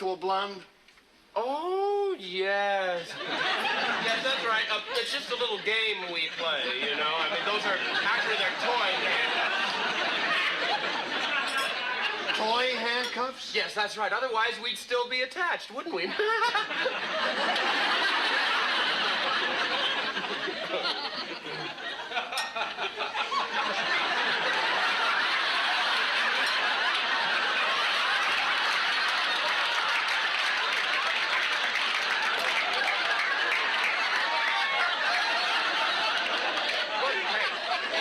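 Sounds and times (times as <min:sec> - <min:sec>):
studio audience laughing: 0:02.9 - 0:12.9, 0:15.8 - 0:38.0.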